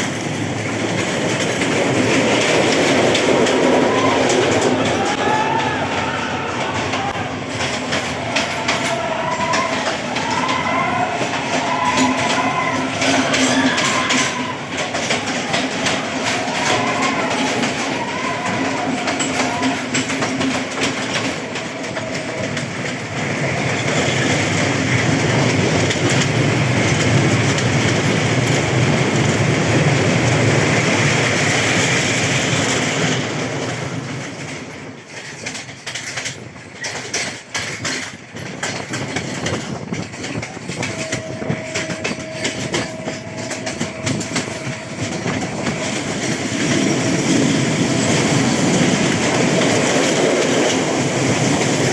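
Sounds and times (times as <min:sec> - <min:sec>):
train wheels clattering on rails: 0:00.0 - 0:51.9.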